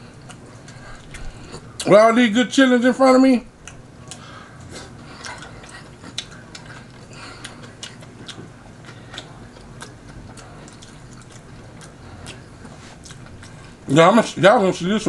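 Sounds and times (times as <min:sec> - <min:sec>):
person chewing food: 0:00.0 - 0:01.9, 0:03.6 - 0:13.9.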